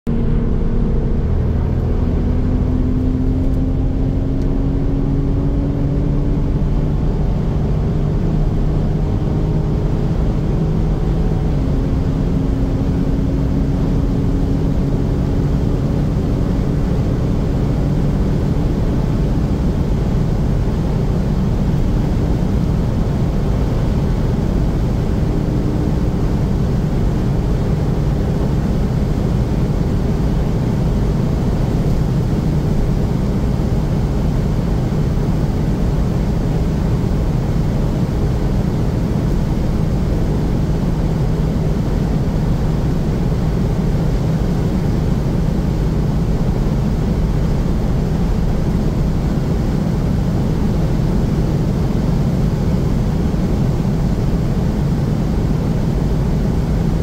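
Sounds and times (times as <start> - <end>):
car engine accelerating: 0.1 - 57.0
loud wind noise: 0.1 - 57.0.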